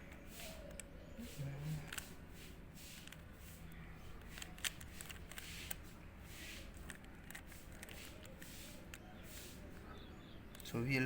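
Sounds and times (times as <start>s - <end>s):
puzzle cube clicking and rattling: 0.1s - 2.2s, 2.9s - 9.9s.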